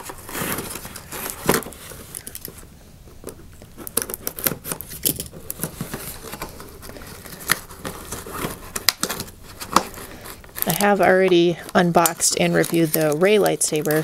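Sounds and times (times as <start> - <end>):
hands opening cardboard box: 0.0 - 2.6, 3.2 - 14.0
tape tearing: 0.0 - 2.6, 3.6 - 14.0.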